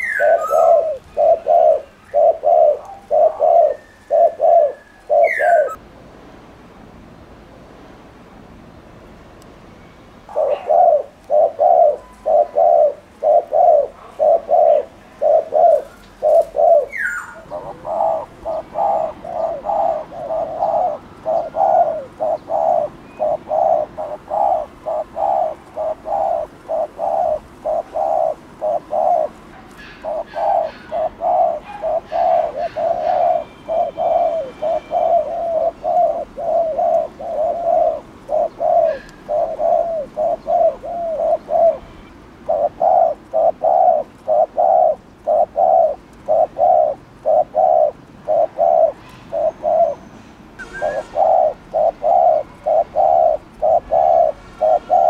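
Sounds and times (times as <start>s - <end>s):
dove cooing: 0.0s - 5.8s, 10.3s - 55.0s.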